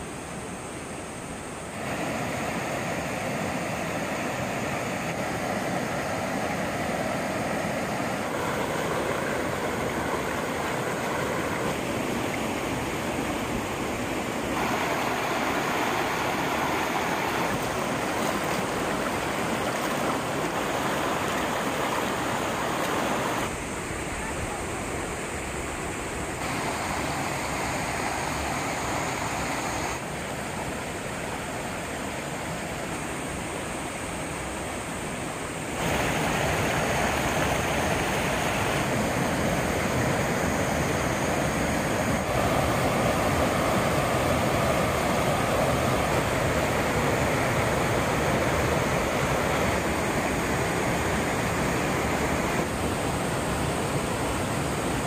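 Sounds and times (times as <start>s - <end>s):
stream rushing over rocks: 0.2s - 55.0s.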